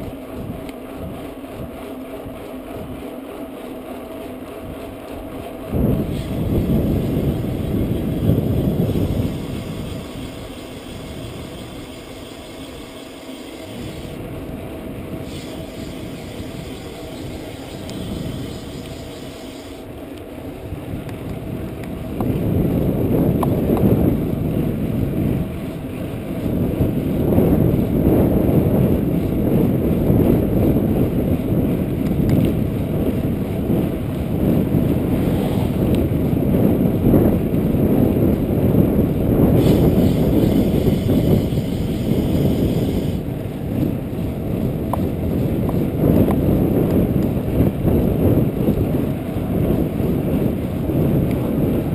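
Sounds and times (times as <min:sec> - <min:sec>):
bike tyres rolling on asphalt: 0:00.0 - 0:51.9
wind rumble on camera: 0:00.0 - 0:51.9.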